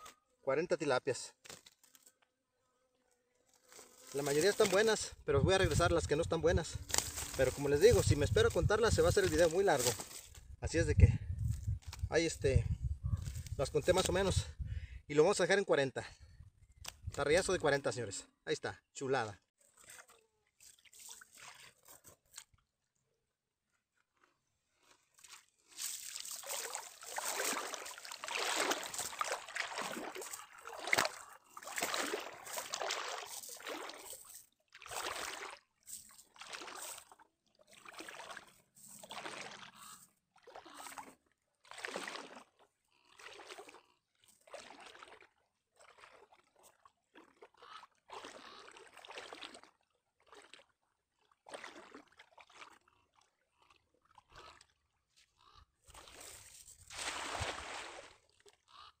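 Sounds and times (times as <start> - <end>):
wading through water: 3.5 - 12.0, 16.2 - 22.9, 23.9 - 59.0.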